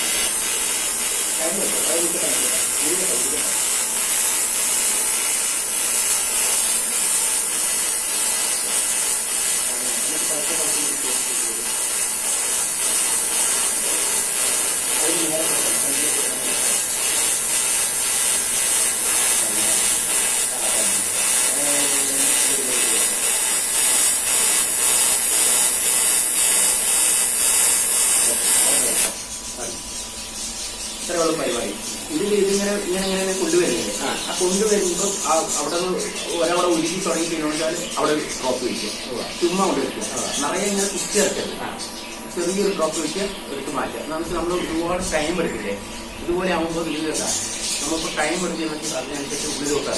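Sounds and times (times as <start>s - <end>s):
welding arc hissing: 0.0s - 49.9s.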